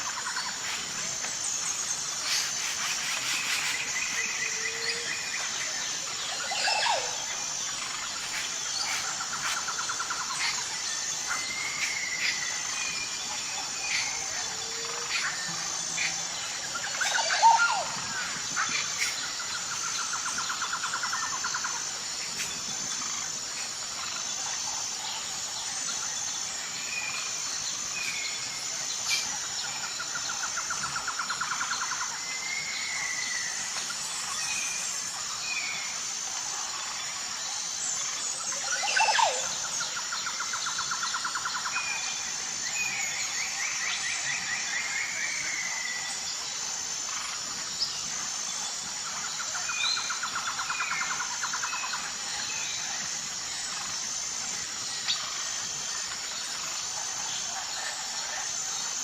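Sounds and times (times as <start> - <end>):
birds calling and chirping: 0.0 - 59.0
high insect drone: 0.0 - 59.0.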